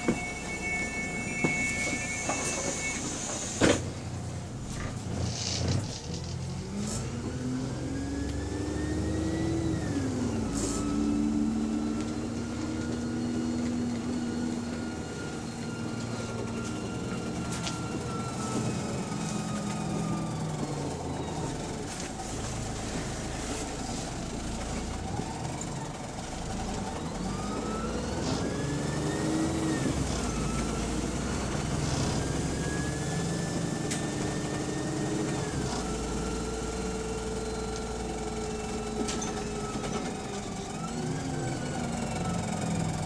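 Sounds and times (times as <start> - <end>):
gearbox whine: 0.0 - 23.4, 25.0 - 43.0
bus engine running: 0.0 - 43.0.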